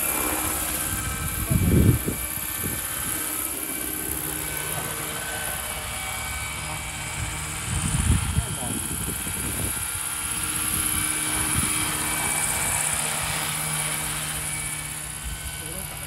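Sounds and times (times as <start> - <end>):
model helicopter rotor whir: 0.0 - 16.0.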